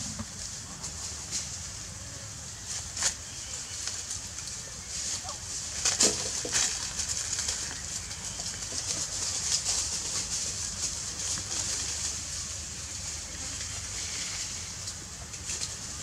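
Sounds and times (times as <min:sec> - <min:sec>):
steady high-pitched hiss: 0:00.0 - 0:16.0
soft rustles: 0:02.6 - 0:16.0.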